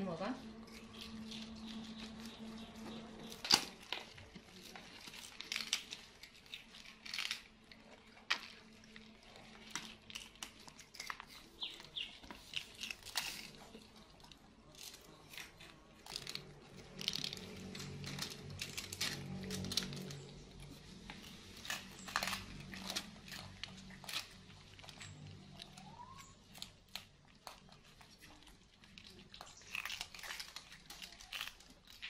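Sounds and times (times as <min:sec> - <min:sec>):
cake wrapper crackling: 0:00.6 - 0:32.0.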